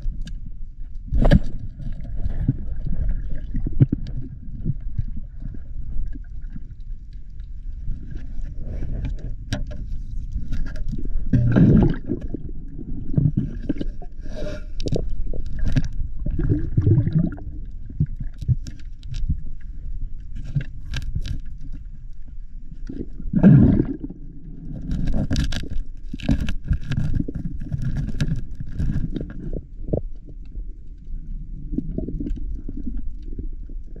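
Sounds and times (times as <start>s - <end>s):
underwater sloshing and rumbling: 0.0s - 34.0s.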